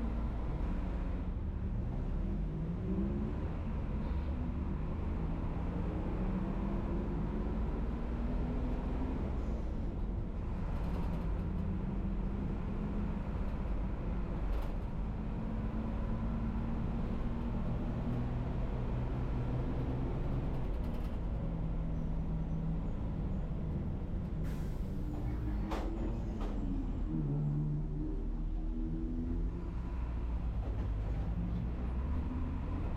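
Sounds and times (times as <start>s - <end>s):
bus engine rumbling: 0.0s - 32.9s
road noise: 0.0s - 32.9s.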